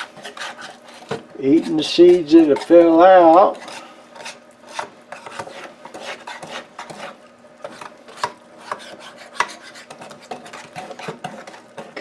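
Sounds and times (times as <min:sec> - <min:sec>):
whisk scraping a bowl: 0:00.0 - 0:12.0.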